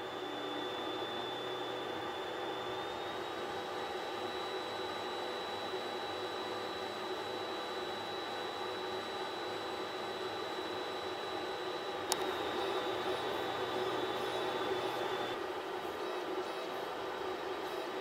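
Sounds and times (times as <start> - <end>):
printer fans whirring: 0.0 - 18.0
thin high whine: 0.0 - 18.0.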